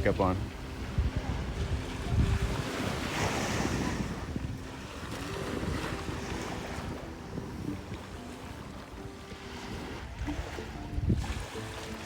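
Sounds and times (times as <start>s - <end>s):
small waves washing on sand: 0.0s - 12.0s
wind buffeting microphone: 0.0s - 12.0s.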